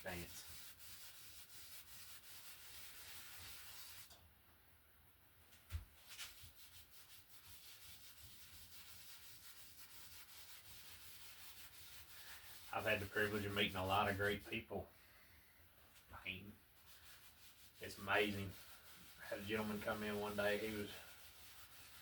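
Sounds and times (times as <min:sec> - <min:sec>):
brush swishing on canvas: 0:00.0 - 0:04.2, 0:05.5 - 0:14.6, 0:15.9 - 0:22.0.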